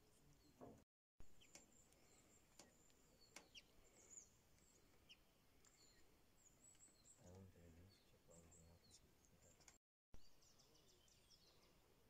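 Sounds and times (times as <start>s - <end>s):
quiet outdoor hush: 0.0s - 12.0s
small birds chirping: 0.0s - 12.0s.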